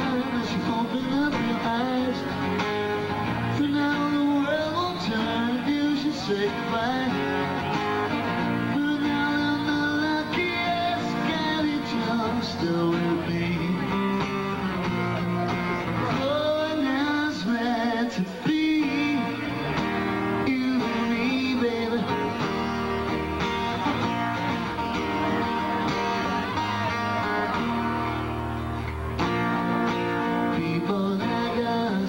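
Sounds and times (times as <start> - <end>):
man singing: 0.0 - 27.8, 29.9 - 32.0
strummed acoustic guitars: 0.0 - 32.0.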